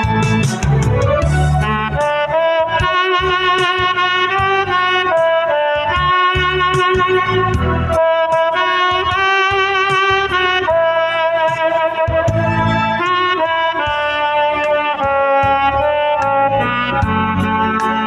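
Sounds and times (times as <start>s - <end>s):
backing track: 0.0s - 18.0s
tenor saxophone melody: 0.0s - 18.0s.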